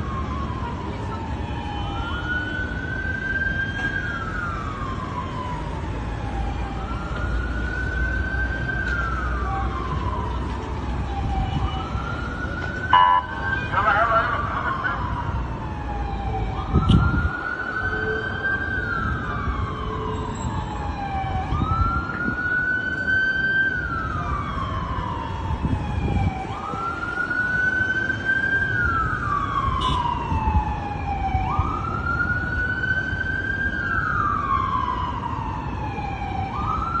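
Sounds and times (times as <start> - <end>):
emergency siren wailing: 0.0 - 37.0.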